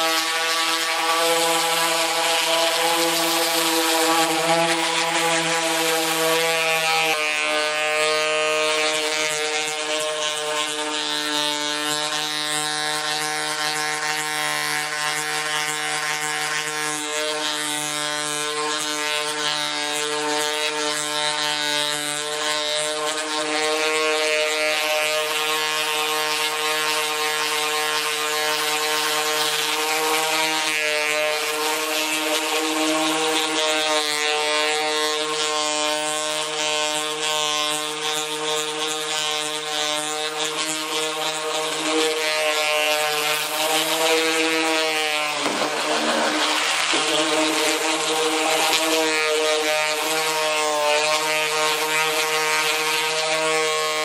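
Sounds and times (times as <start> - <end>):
orbital sander on metal: 0.0 - 54.0.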